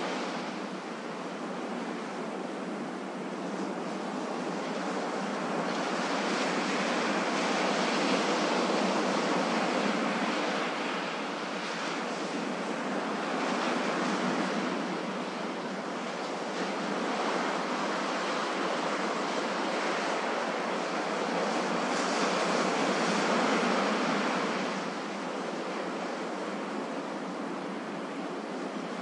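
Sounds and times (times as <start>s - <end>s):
ocean surf washing on beach: 0.0s - 29.0s.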